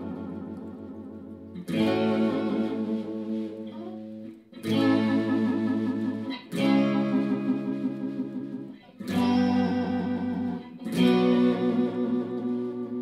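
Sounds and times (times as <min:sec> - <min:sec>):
electric guitar chords with whammy bar: 0:00.0 - 0:13.0.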